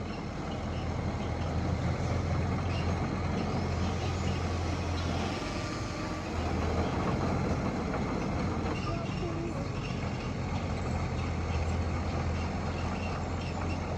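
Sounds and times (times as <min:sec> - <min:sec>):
heavy machine engine droning: 0:00.0 - 0:13.9.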